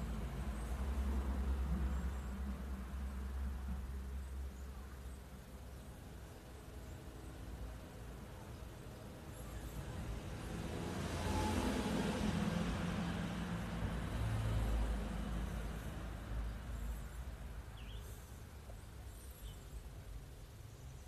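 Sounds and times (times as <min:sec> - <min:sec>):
road noise: 0:00.0 - 0:21.0
vehicle engine rumble: 0:00.0 - 0:21.0.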